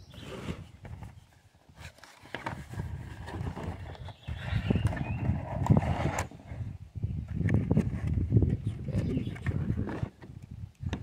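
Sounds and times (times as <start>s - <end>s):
cardboard scraping and rustling: 0.1s - 6.7s, 7.4s - 10.4s.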